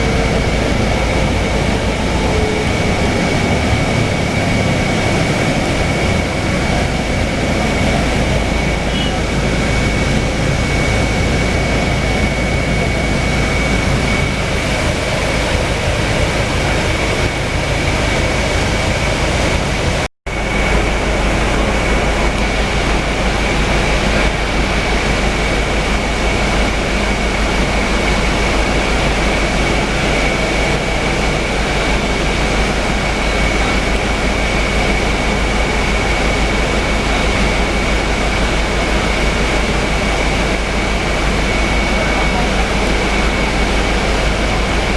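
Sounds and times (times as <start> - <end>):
bus engine and road noise: 0.0 - 44.9
thin high whine: 0.0 - 44.9.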